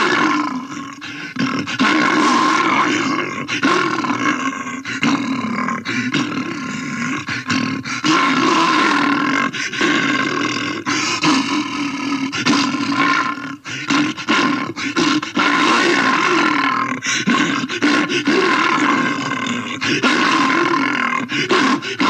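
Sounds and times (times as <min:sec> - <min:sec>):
bear snarling and growling: 0:00.0 - 0:22.0.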